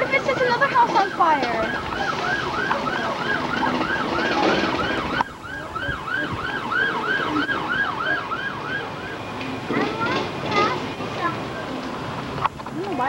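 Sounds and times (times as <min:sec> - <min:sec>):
emergency siren yelping: 0:00.0 - 0:11.8.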